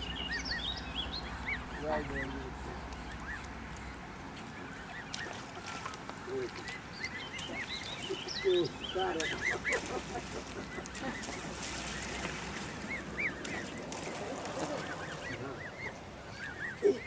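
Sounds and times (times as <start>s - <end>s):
goslings peeping: 0.0s - 17.0s
small water splashes: 0.0s - 17.0s.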